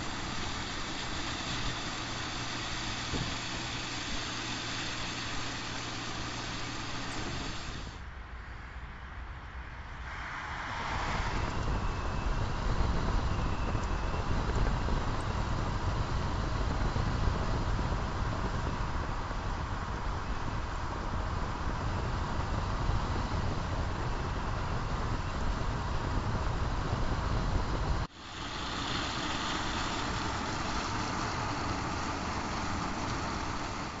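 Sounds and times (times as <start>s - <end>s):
low engine hum: 0.0s - 8.0s, 10.5s - 34.0s
low car rumble: 0.0s - 8.1s, 10.7s - 34.0s
tyre and road noise: 0.0s - 34.0s.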